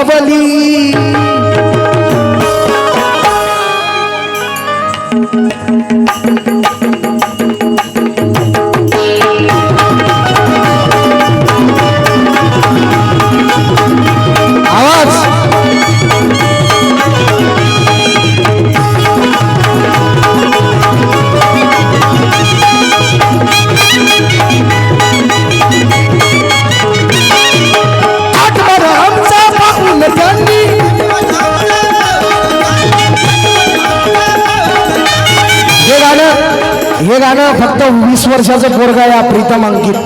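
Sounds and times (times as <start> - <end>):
instrumental melody: 0.2 - 40.0
drum beat: 0.8 - 40.0.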